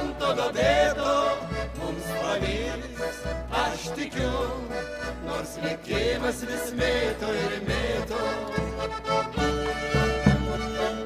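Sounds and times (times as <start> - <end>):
accordion: 0.0 - 11.0
fiddle melody: 0.0 - 11.0
guitar: 0.0 - 11.0.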